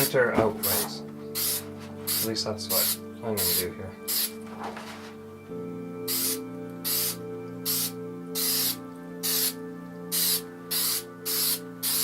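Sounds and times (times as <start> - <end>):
background music: 0.0 - 12.0
aerosol spray can hissing: 0.6 - 4.4, 6.1 - 12.0.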